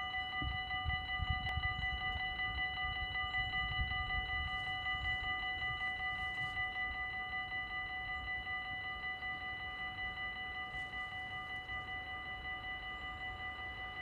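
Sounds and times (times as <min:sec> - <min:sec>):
level-crossing warning bell: 0:00.0 - 0:14.0.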